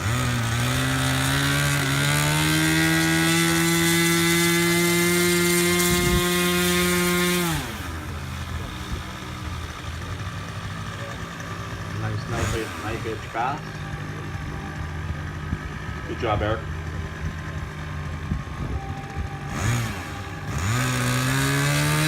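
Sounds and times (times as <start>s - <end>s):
model plane motor whining: 0.0s - 22.0s.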